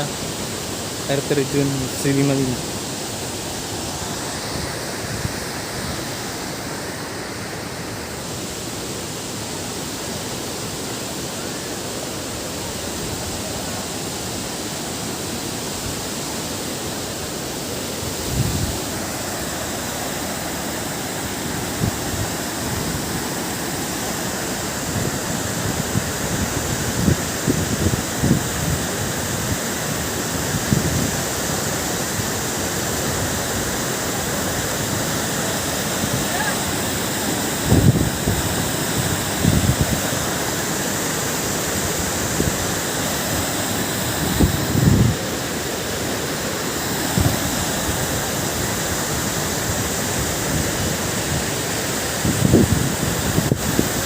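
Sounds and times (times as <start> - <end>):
waterfall roar: 0.0 - 54.0.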